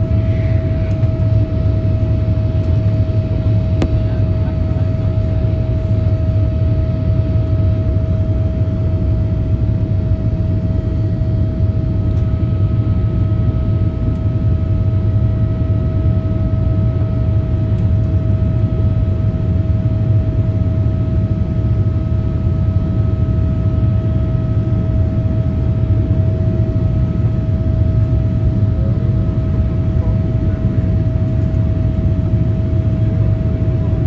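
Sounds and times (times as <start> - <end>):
steady whine: 0.0 - 16.4, 17.0 - 34.0.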